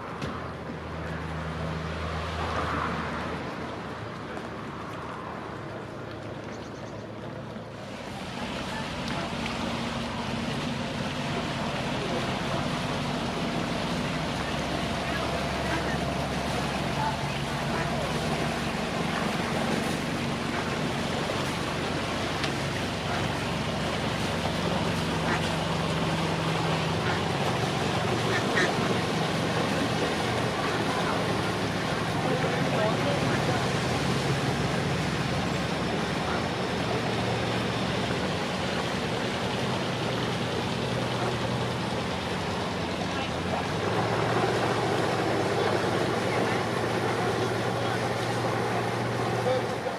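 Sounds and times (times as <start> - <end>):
boat engine humming: 0.0 - 49.9
water washing: 0.0 - 49.9.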